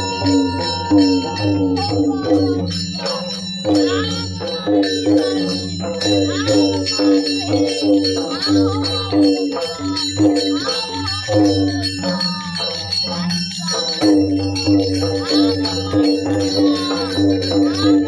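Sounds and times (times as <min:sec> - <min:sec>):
drum beaten fast: 0:00.0 - 0:18.0
ringing metallic tones: 0:00.0 - 0:18.0.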